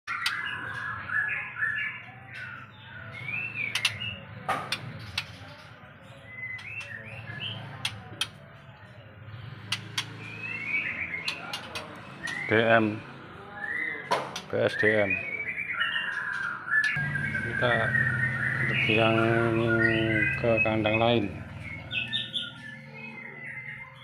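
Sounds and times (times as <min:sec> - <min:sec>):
birds chirping: 0:00.1 - 0:24.0.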